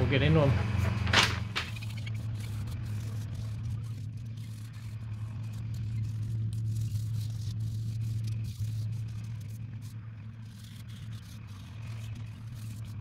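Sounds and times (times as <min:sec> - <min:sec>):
steady low hum: 0:00.0 - 0:13.0
faint scratching of sanding wood: 0:00.2 - 0:13.0.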